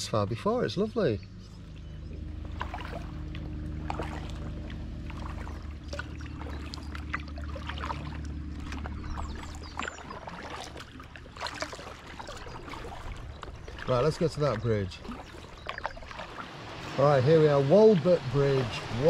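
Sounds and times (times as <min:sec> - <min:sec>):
steady low hum: 0:00.0 - 0:19.0
paddle splashing in water: 0:01.5 - 0:19.0.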